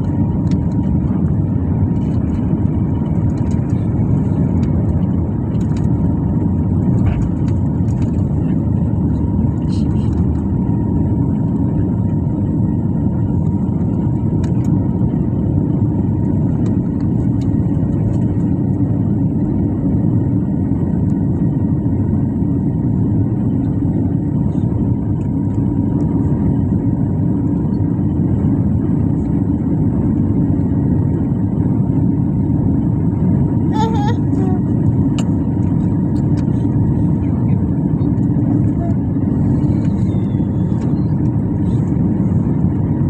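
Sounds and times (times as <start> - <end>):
airliner engine rumble: 0.0 - 43.0
faint steady whine: 0.0 - 43.0.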